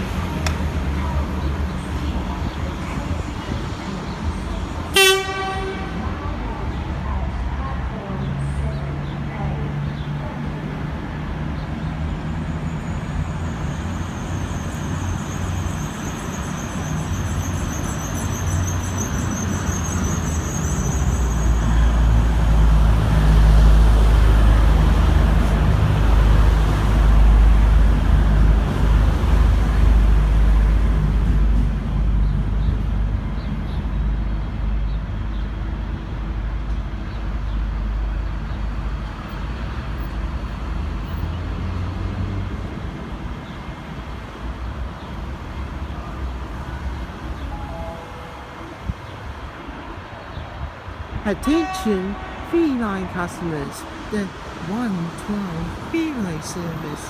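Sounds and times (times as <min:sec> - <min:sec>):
diesel locomotive engine rumbling: 0:00.0 - 0:53.0.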